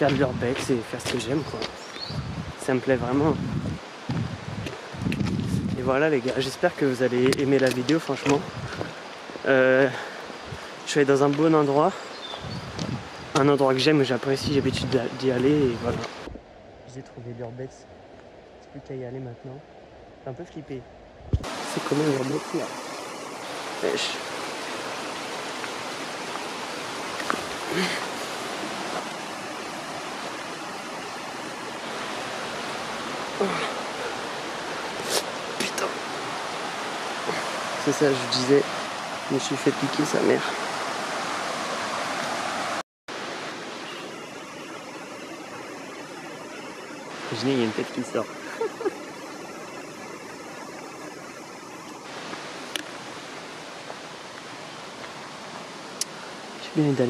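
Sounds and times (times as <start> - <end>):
stream rushing: 0.0 - 16.3, 21.2 - 57.0.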